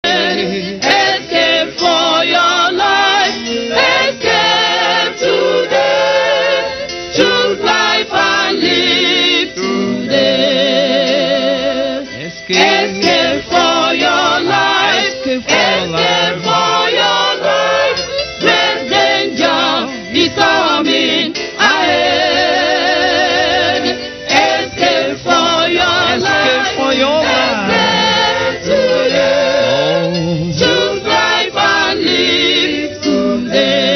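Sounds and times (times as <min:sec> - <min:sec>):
choir singing gospel: 0:00.0 - 0:33.9.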